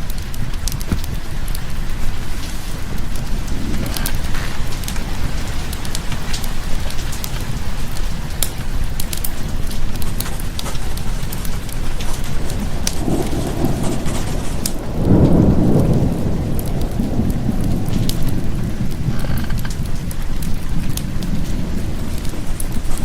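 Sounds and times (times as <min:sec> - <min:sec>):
steady rain: 0:00.0 - 0:23.0
thunder rolling: 0:00.0 - 0:23.0
wood fire crackling: 0:00.0 - 0:23.0.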